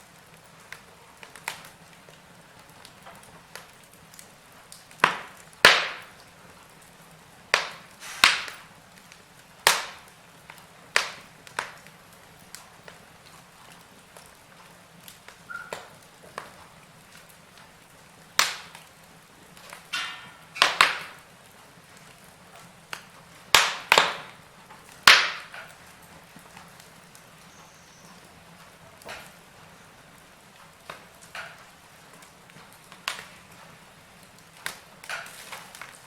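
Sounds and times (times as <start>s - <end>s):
fire hissing: 0.0s - 36.0s
wood fire crackling and popping: 0.0s - 36.0s.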